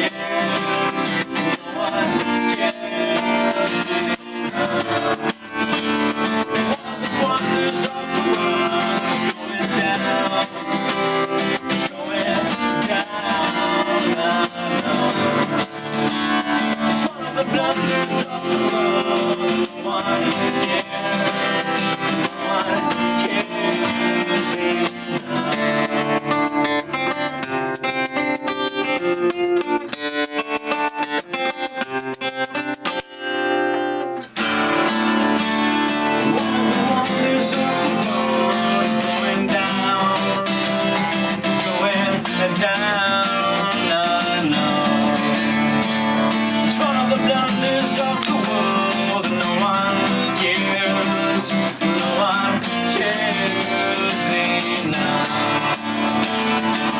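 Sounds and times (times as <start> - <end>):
acoustic guitars strumming: 0.0 - 56.9.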